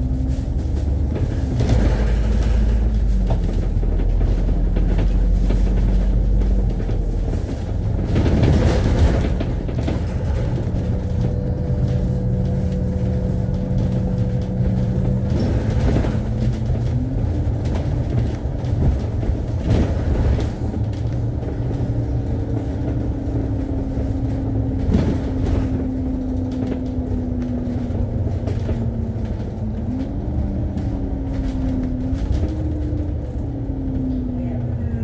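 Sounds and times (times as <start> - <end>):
bus body rattling and knocking: 0.0 - 35.0
bus engine rumbling: 0.0 - 35.0.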